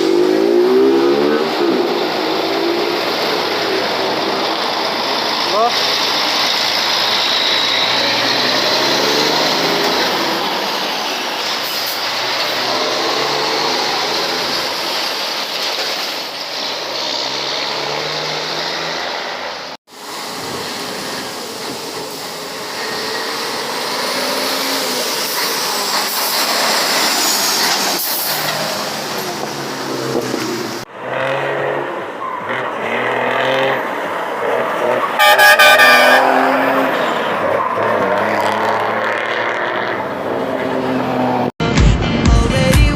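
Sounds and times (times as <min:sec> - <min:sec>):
diesel truck engines revving: 0:00.0 - 0:41.6.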